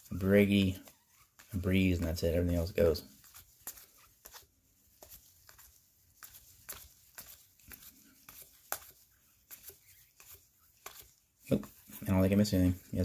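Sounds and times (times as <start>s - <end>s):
trading cards flicking: 0.5s - 11.8s.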